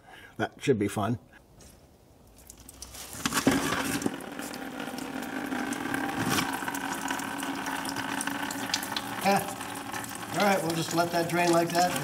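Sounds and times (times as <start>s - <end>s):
liquid splashing into plastic bucket: 2.3s - 12.0s.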